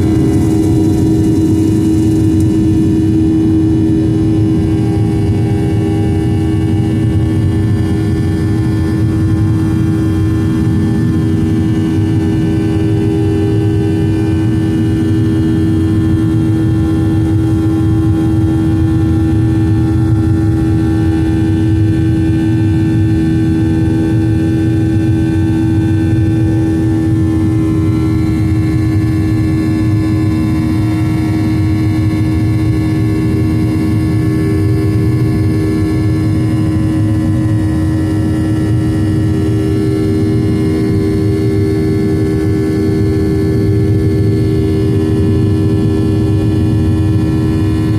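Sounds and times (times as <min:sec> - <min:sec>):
jet engines droning in cabin: 0:00.0 - 0:47.9.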